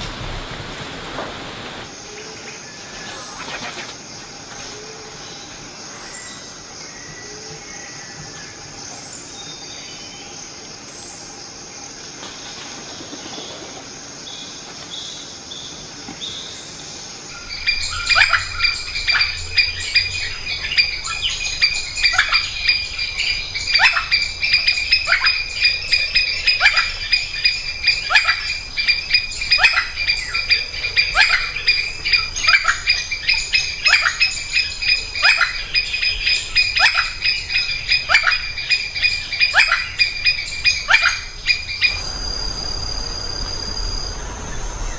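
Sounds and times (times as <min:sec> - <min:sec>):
high insect drone: 0:00.1 - 0:44.9.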